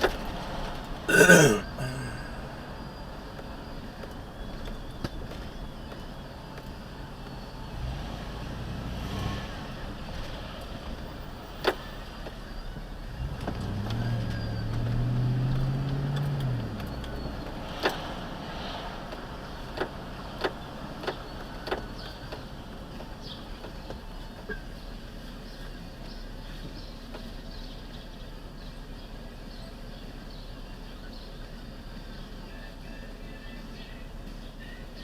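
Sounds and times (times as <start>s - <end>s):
road noise inside moving vehicle: 2.4s - 35.0s.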